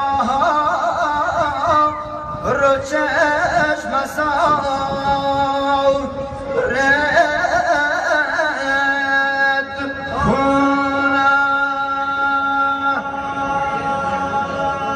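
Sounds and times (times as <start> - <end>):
steady drone: 0.0 - 14.9.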